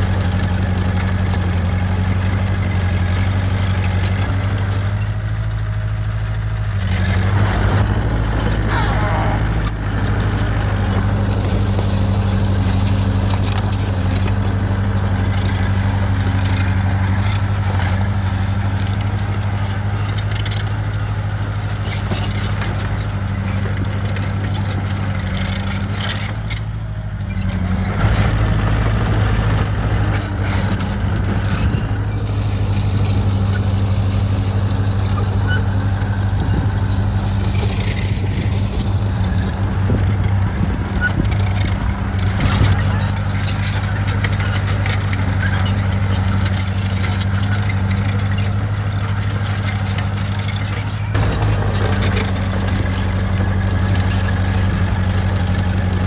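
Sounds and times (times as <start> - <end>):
bulldozer diesel engine running: 0.0 - 56.0
metal clicks and clanks: 6.8 - 56.0.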